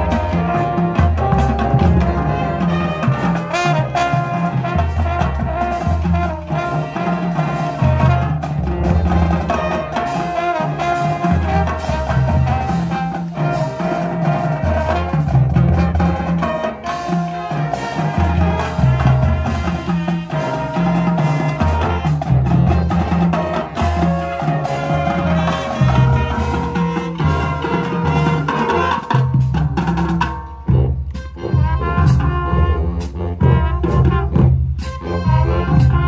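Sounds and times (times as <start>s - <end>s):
marching band brass: 0.0s - 36.0s.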